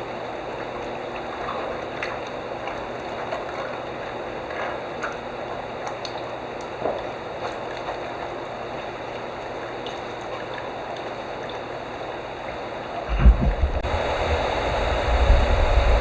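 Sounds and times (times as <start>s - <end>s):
liquid bubbling and gurgling: 0.1s - 16.0s.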